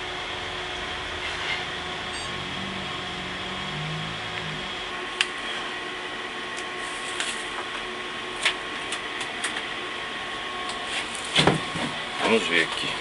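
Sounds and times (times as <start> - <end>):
mechanical hum with whining: 0.0 - 13.0.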